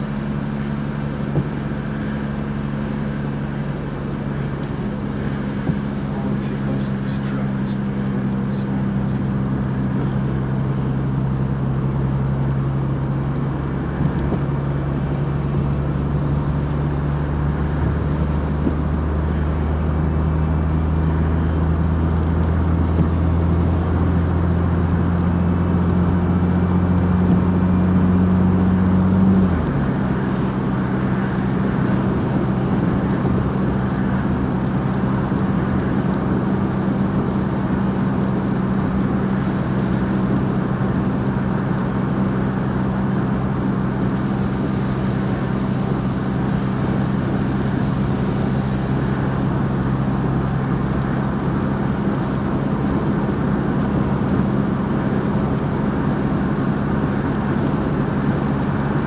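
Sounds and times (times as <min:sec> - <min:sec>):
road and tyre noise: 0:00.0 - 0:59.0
vehicle engine drone: 0:00.0 - 0:59.0.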